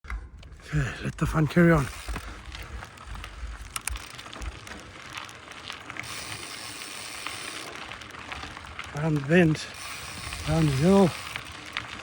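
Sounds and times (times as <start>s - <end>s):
bike clicks and rattles: 0.0s - 12.0s
bike tyres on dirt trail: 0.0s - 12.0s.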